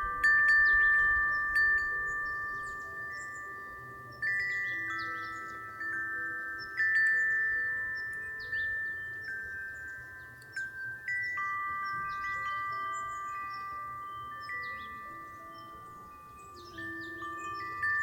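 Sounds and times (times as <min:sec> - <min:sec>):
wind chime ringing: 0:00.0 - 0:18.0.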